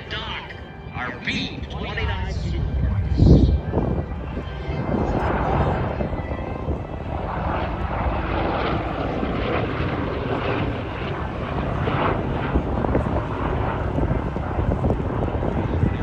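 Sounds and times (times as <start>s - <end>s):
propeller plane droning past: 0.0s - 16.0s.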